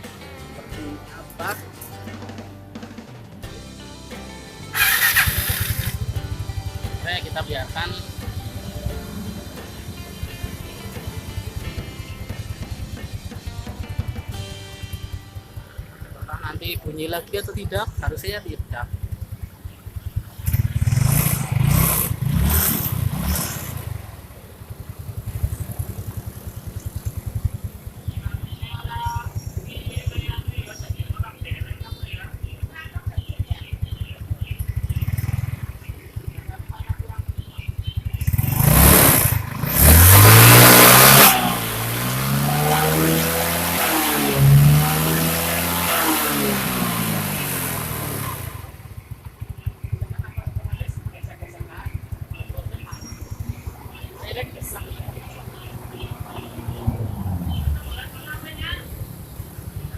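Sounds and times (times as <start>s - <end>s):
scooter engine revving and idling: 2.7s - 59.9s.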